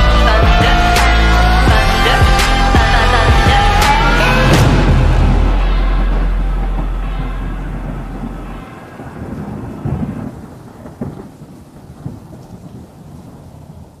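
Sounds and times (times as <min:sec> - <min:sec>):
rain: 0:00.0 - 0:14.0
sharp thunder claps: 0:00.4 - 0:14.0
low rumble of thunder: 0:02.2 - 0:14.0.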